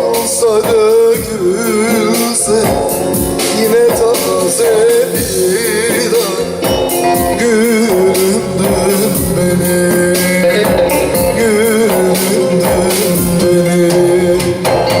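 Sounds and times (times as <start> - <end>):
steady percussion beat: 0.0 - 15.0.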